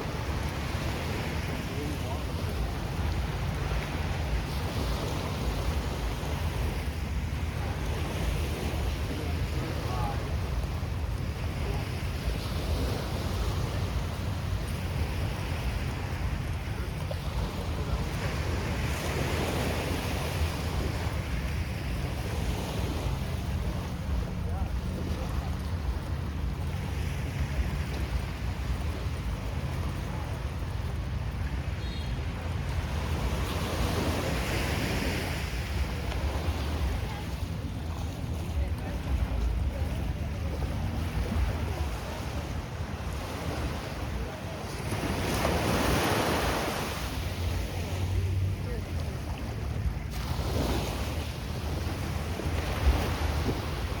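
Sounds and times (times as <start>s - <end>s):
sea waves breaking: 0.0s - 54.0s
surf washing onto sand: 0.0s - 54.0s
wind rumbling on microphone: 0.0s - 54.0s.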